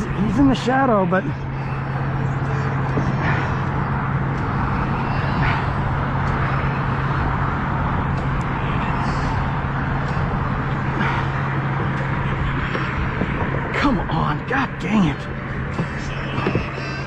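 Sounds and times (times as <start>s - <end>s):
constant low hum: 0.0s - 17.0s
road traffic rumble: 0.0s - 17.0s.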